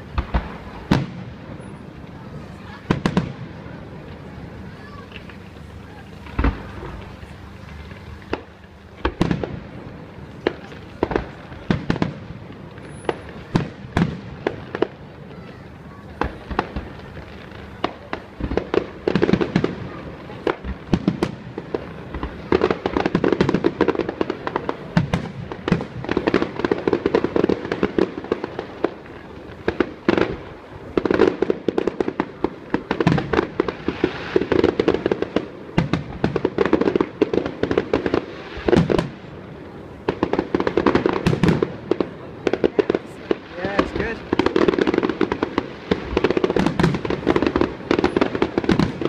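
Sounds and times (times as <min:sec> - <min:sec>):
firework crackling: 0:00.0 - 0:49.0.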